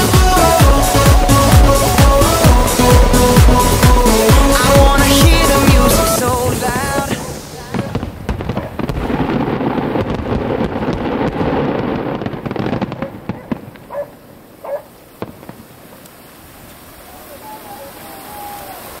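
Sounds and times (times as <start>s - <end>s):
fireworks crackling and banging: 0.0s - 16.2s.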